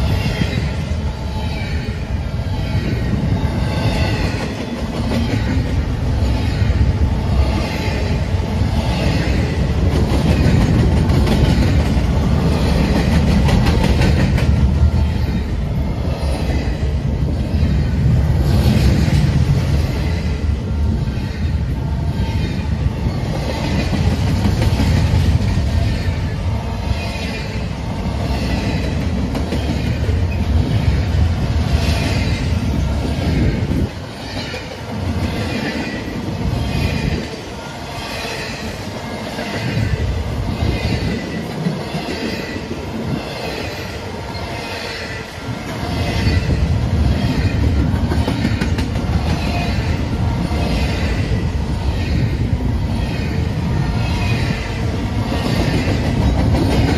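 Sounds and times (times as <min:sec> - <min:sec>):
freight train wheels rumbling on rail: 0:00.0 - 0:56.9
rhythmic rail clicking: 0:00.0 - 0:56.9.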